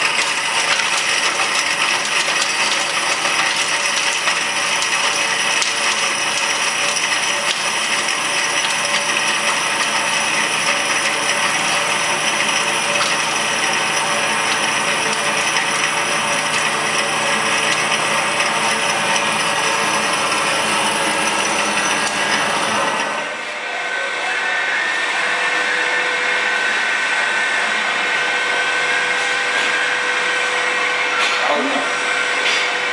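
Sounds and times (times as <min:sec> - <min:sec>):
mixer grinder running: 0:00.0 - 0:32.9.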